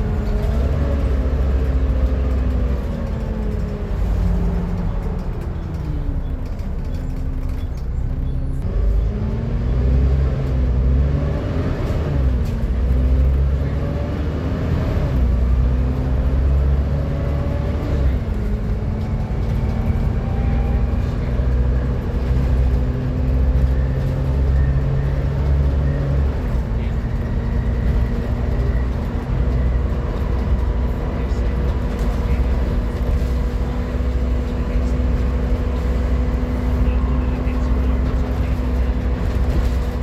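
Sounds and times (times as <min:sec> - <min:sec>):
bus engine rumble: 0:00.0 - 0:40.0
loud bus whine: 0:00.0 - 0:40.0.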